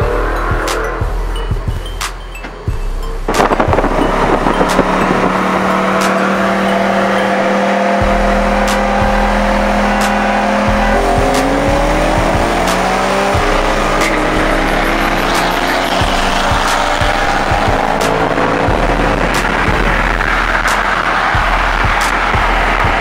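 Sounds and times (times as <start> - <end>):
car engine accelerating hard: 0.0 - 2.0, 2.8 - 23.0
road and wind rush: 0.0 - 23.0.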